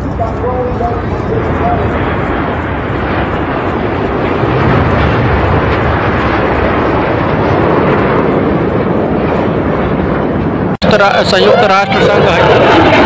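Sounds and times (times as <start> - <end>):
jet engines flying over: 0.0 - 13.0.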